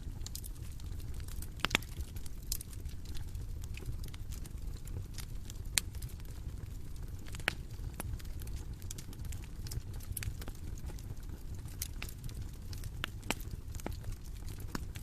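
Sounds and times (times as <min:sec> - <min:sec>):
bonfire burning rumble: 0:00.0 - 0:15.0
fire pops and snaps: 0:00.0 - 0:15.0.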